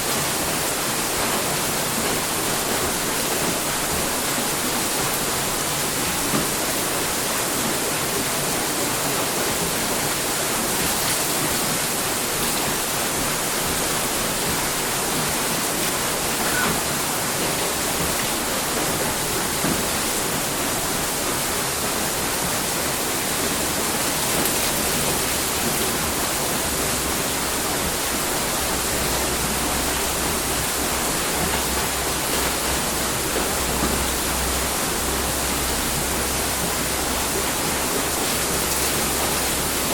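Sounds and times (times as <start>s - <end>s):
water pouring at a water mill: 0.0s - 39.9s.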